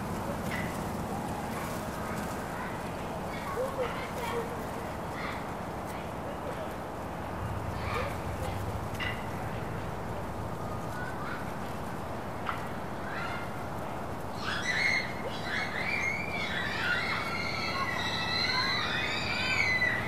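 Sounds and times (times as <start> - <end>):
distant children shouting: 0.0 - 20.0
wind: 0.0 - 20.0.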